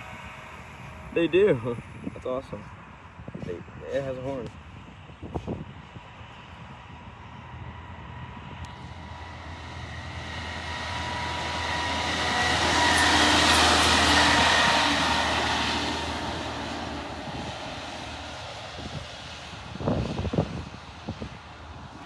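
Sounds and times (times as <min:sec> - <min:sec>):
rail machine engine hum: 0:00.0 - 0:22.0
rail noise: 0:00.0 - 0:22.0.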